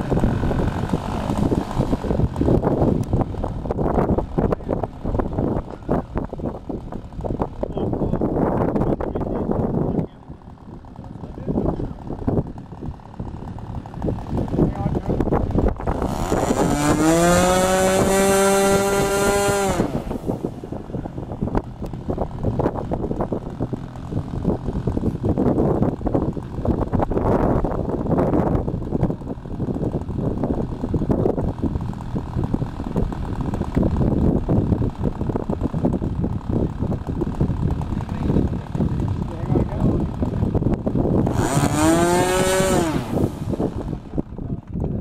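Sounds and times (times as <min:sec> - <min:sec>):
model airplane engine revving: 0:00.0 - 0:44.8
wind gusts on microphone: 0:00.0 - 0:45.0.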